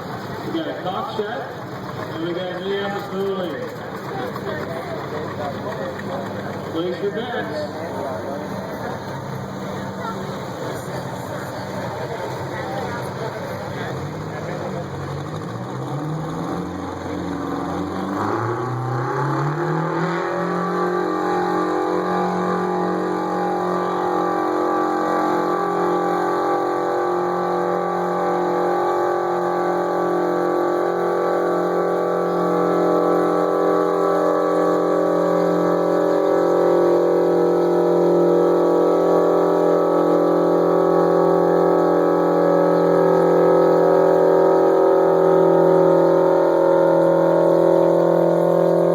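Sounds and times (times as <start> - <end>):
tractor engine revving: 0.0 - 48.9.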